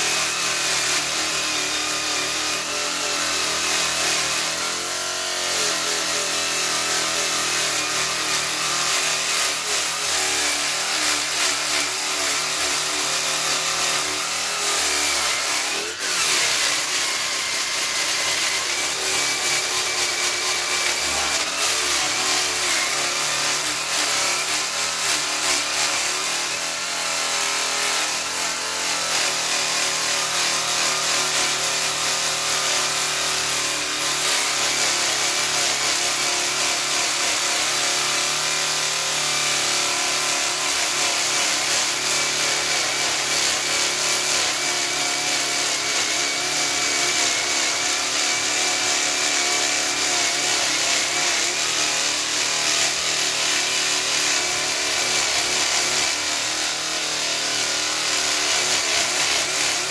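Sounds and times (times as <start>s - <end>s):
sanding disc scraping wood: 0.0s - 59.9s.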